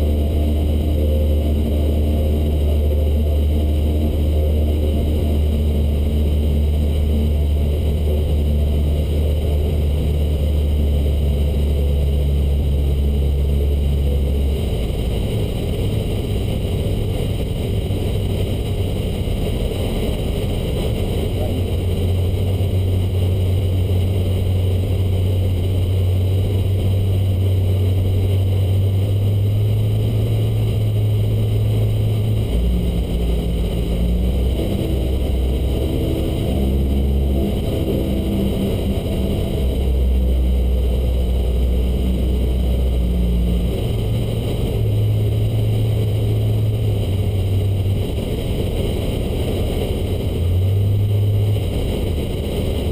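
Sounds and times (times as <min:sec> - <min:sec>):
airplane engine and propeller: 0:00.0 - 0:52.9.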